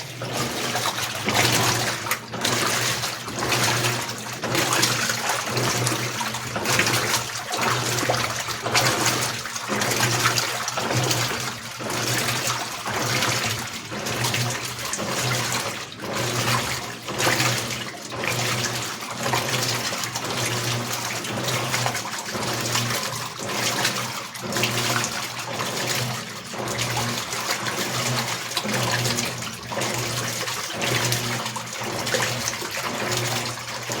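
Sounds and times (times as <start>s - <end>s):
washing machine water sloshing: 0.0s - 34.0s.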